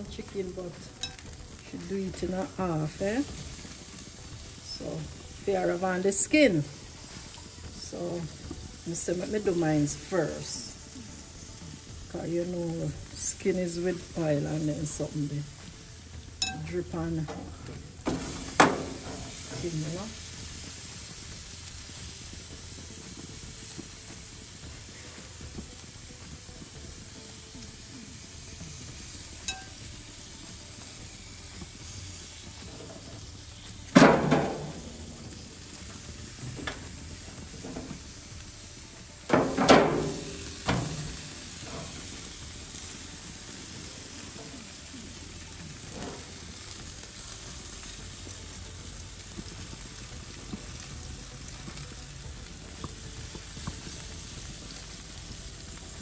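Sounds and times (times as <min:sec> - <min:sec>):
chicken sizzling: 0:00.0 - 0:56.0.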